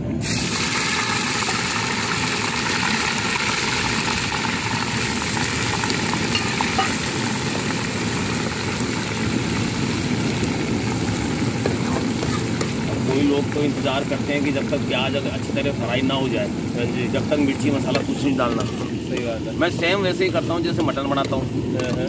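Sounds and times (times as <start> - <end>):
onion sizzling in hot oil: 0.2 - 22.0.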